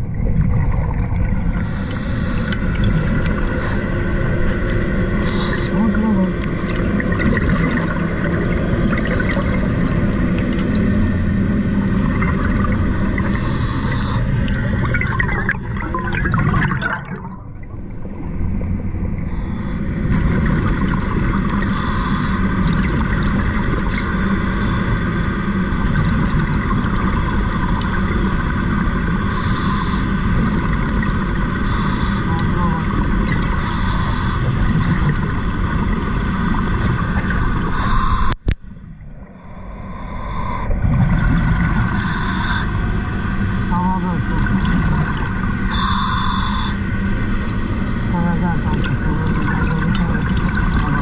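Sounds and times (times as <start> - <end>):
underwater rush of bubbles: 0.0 - 29.4, 30.1 - 31.8, 32.4 - 39.4, 40.5 - 45.8, 46.8 - 51.0.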